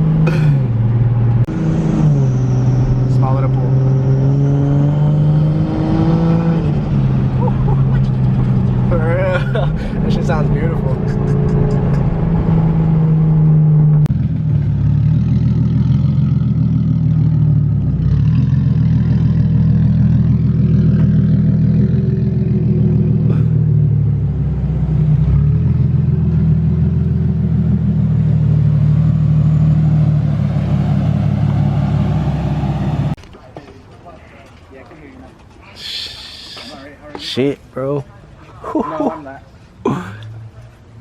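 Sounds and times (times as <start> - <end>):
car engine droning: 0.0 - 33.2.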